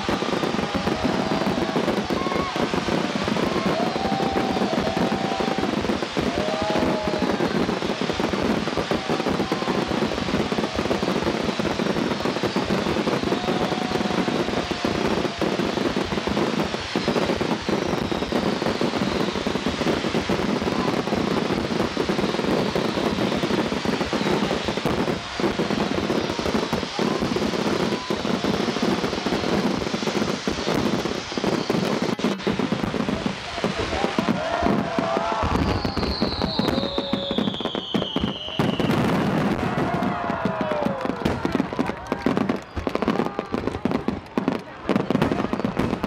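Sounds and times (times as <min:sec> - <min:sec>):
firework whistles: 0:00.0 - 0:43.8
firework crackling: 0:00.0 - 0:46.0.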